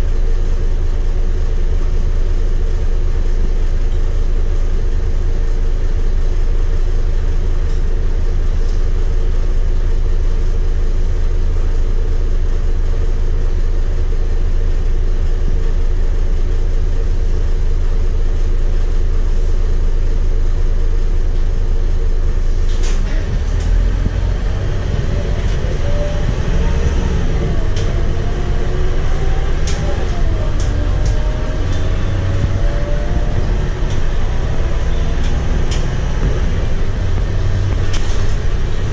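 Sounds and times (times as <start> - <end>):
bus diesel engine: 0.0 - 38.9.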